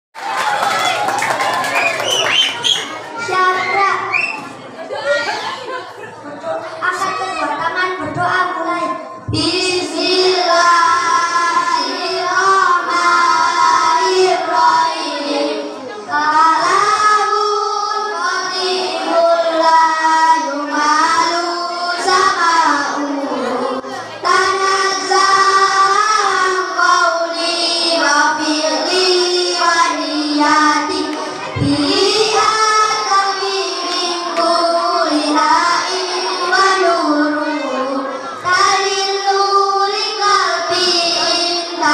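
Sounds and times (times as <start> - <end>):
children singing: 1.4 - 41.9.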